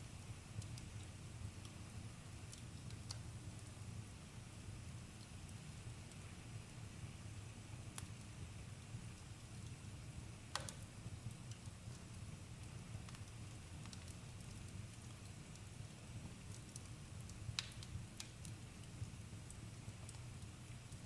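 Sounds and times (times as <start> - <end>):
fire crackles and pops: 0.0 - 21.0.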